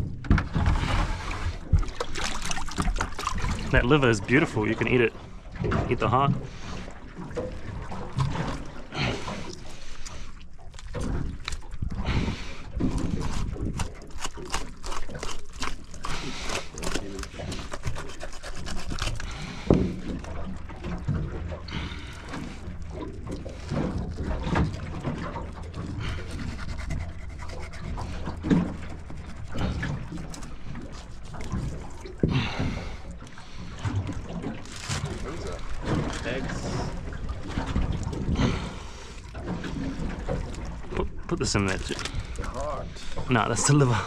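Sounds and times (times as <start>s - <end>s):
wet squelching of fish innards: 1.8s - 4.1s, 7.8s - 43.8s.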